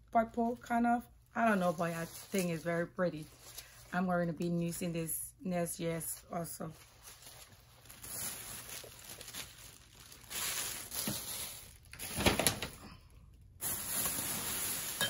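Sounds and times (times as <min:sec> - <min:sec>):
rustling and crinkling of items: 0:00.4 - 0:15.0.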